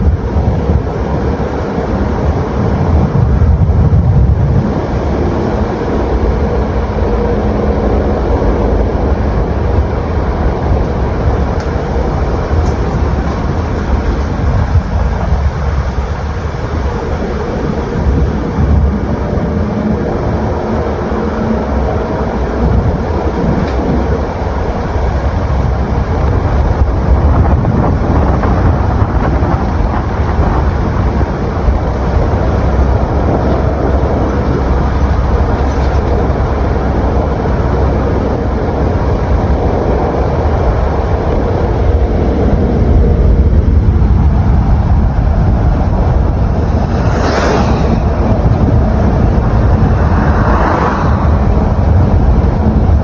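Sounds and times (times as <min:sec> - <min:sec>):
vehicle rumbling in motion: 0:00.0 - 0:53.0.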